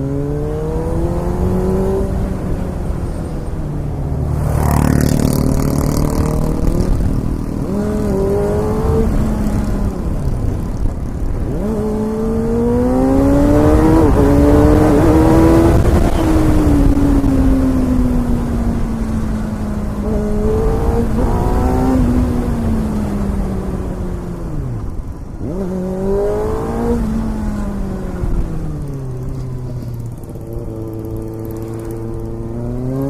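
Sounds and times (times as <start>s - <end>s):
motorcycle engine running: 1.0s - 33.0s.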